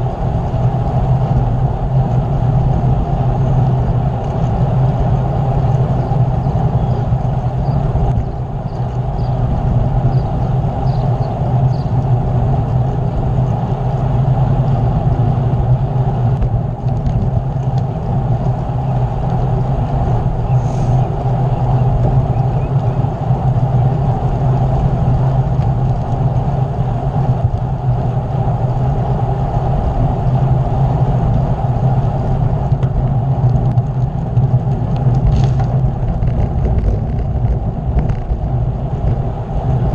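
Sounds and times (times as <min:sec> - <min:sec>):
rolling road noise: 0:00.0 - 0:39.9
wind rushing on microphone: 0:00.0 - 0:39.9.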